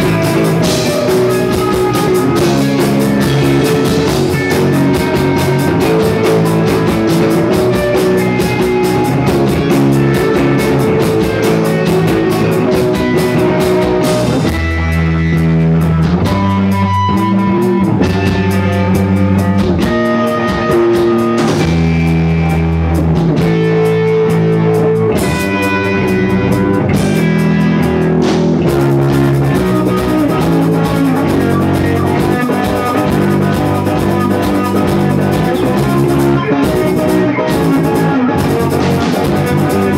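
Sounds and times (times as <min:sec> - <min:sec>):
rock music: 0:00.0 - 0:39.9.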